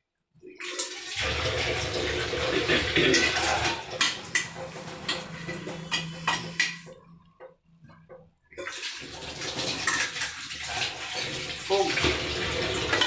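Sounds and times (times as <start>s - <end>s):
broth boiling and bubbling: 0.5s - 13.0s.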